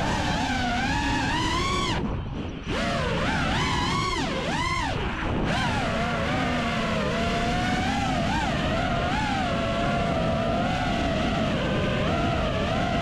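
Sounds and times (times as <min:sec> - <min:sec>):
drone motors whining: 0:00.0 - 0:13.0
wind buffeting microphone: 0:00.0 - 0:13.0.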